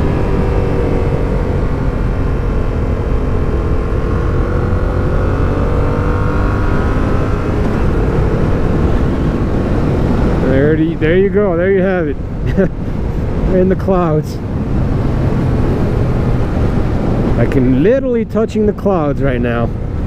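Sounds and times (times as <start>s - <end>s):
motorcycle engine cruising: 0.0s - 17.8s
wind rumble on microphone: 0.0s - 20.0s.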